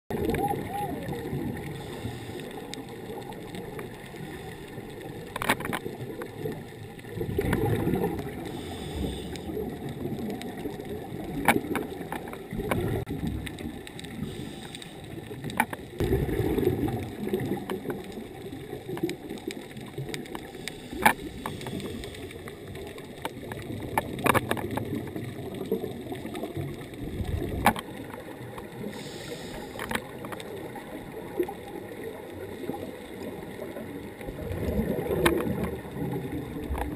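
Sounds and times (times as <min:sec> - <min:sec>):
muffled underwater rumble: 0:00.1 - 0:36.9.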